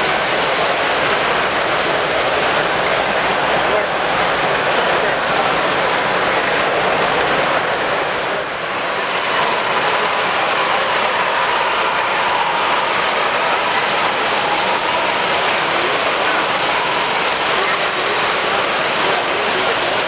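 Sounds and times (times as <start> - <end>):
many voices blended: 0.0 - 20.0
running noise of displays: 0.0 - 20.0.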